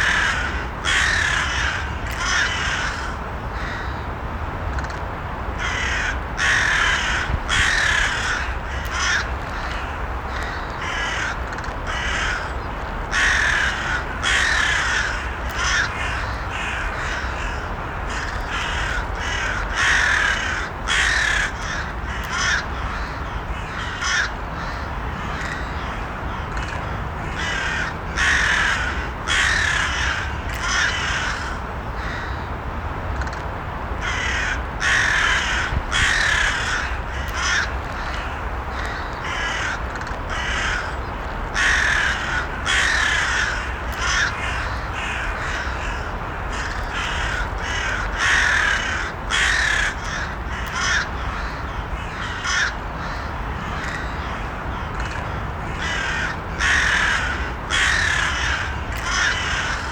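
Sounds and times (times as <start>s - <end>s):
crows cawing: 0.0s - 4.0s, 5.6s - 32.5s, 34.0s - 59.9s.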